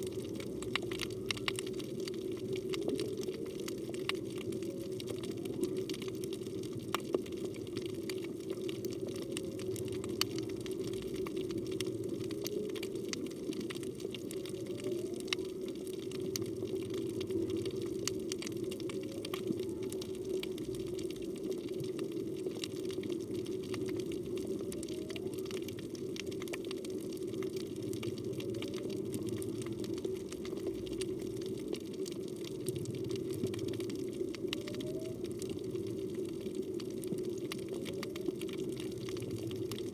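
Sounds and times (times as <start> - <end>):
underwater crackling clicks: 0.0 - 39.9.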